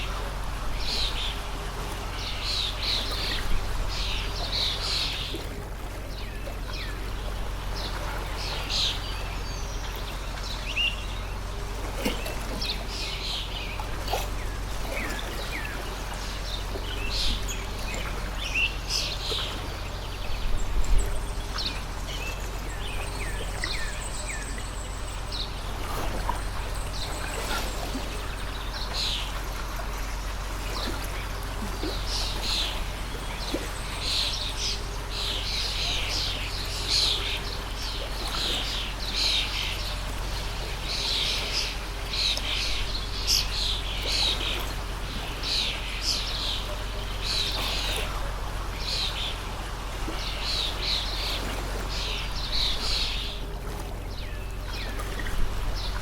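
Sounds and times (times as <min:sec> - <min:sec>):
birds chirping: 0:00.0 - 0:56.0
stream water running: 0:00.0 - 0:56.0.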